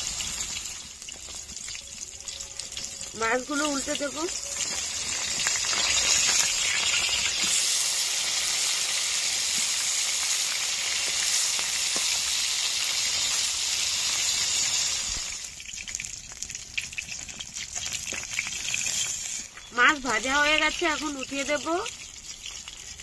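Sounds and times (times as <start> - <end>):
fish frying in hot oil: 0.0 - 23.0.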